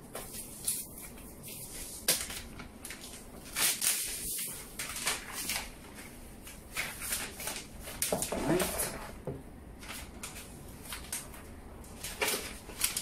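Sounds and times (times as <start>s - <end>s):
plastic wrapping crinkling: 0.1s - 9.2s, 9.8s - 13.0s.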